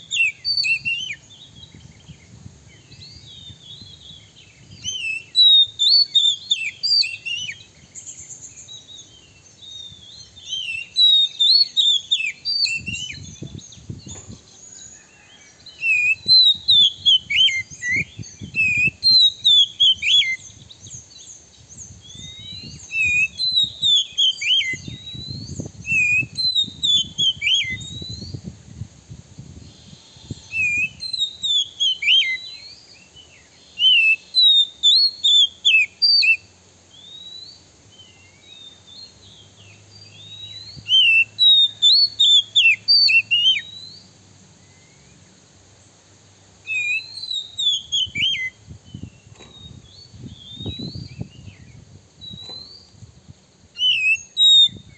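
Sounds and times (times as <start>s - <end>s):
magpie-robin singing: 0.0s - 28.5s, 29.7s - 44.1s, 46.6s - 53.0s, 53.8s - 54.9s.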